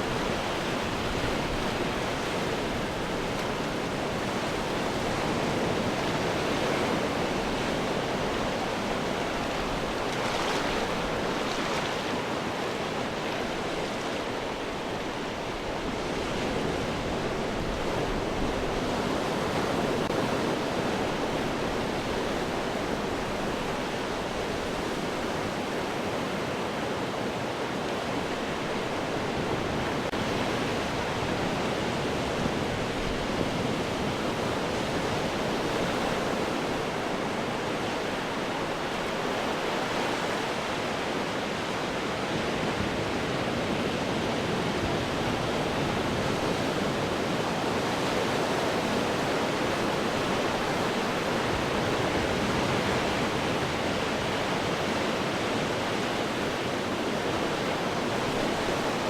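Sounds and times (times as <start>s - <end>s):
sea surf breaking on rocks: 0.0s - 59.0s.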